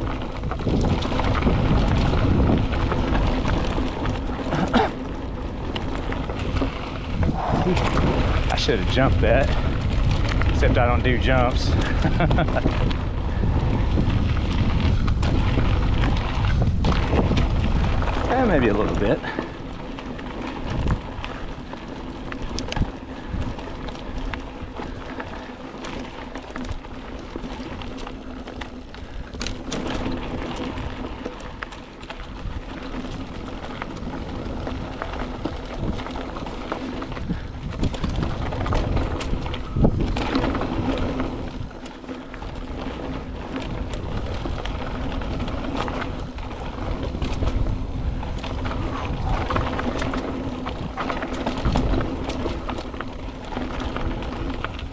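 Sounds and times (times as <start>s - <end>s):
bike tyre and chassis rattle: 0.0s - 54.9s.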